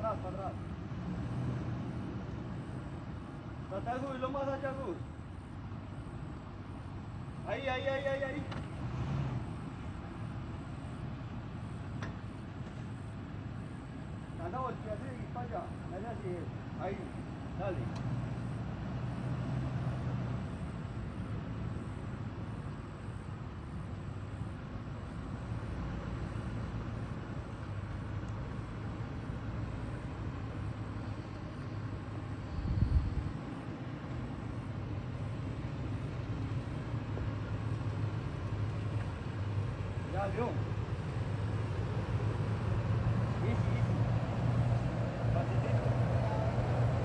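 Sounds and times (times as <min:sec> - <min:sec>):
engine running at low revs: 0:00.0 - 0:47.0.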